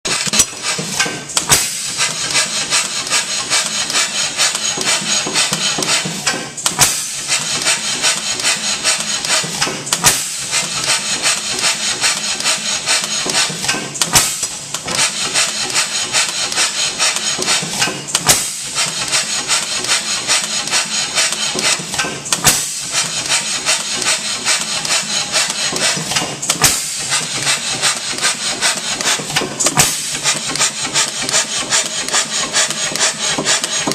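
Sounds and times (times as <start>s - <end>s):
gas engine clattering: 0.1s - 33.9s.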